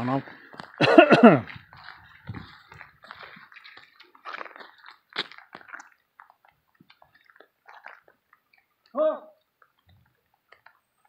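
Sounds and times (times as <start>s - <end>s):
footsteps on gravel: 0.0s - 11.0s.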